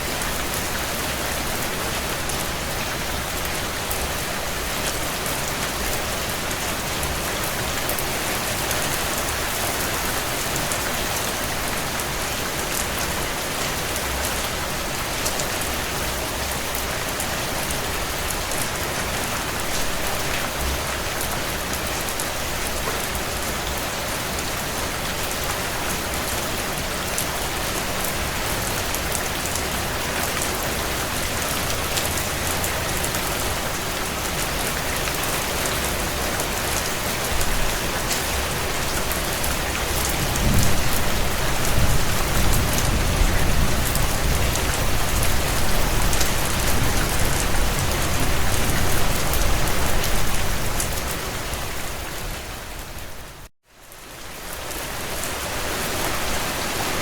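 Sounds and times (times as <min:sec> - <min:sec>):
heavy rain on window panes: 0:00.0 - 0:57.0.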